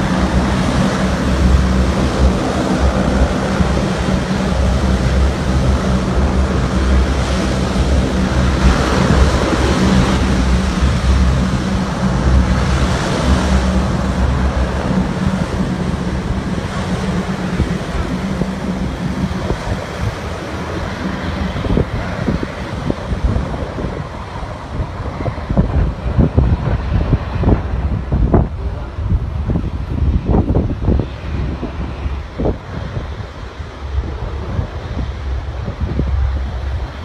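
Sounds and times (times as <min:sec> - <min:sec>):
turboprop aircraft engines droning: 0:00.0 - 0:37.0.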